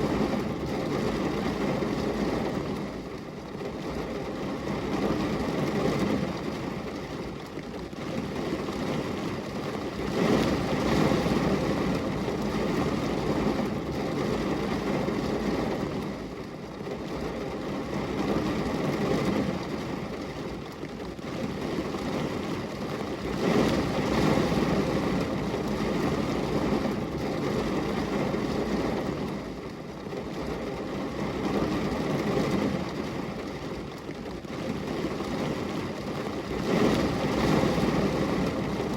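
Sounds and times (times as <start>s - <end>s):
rain rushing: 0.0s - 38.9s.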